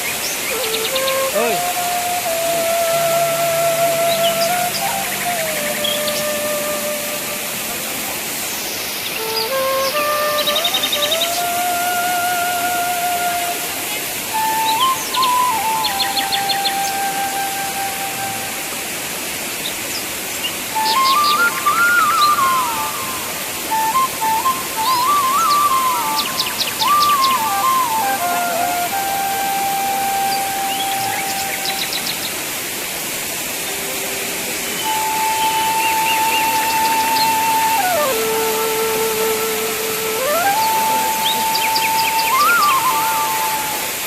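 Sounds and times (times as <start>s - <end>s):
music of long held notes: 0.0s - 44.0s
slow flute-like melody: 0.0s - 44.0s
waterfall rushing: 0.0s - 44.0s.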